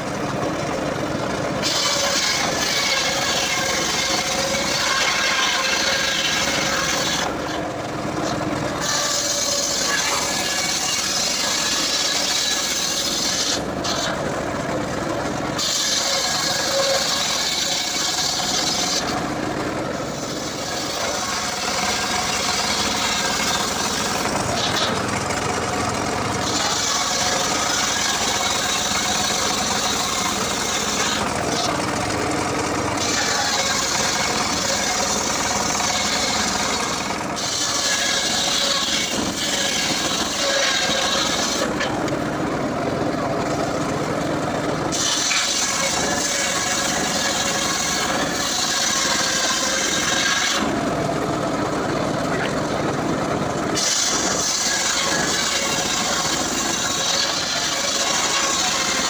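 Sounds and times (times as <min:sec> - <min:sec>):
circular saw cutting wood: 0:00.0 - 0:59.0.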